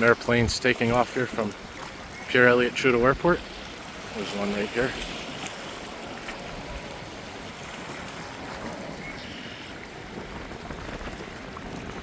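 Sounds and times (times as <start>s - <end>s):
waves on choppy water: 0.0s - 12.0s
wind across microphone: 1.7s - 12.0s.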